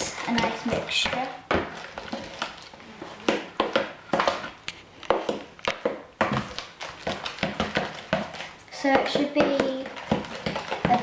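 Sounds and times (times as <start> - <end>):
spoon stirring batter in bowl: 0.0 - 11.0.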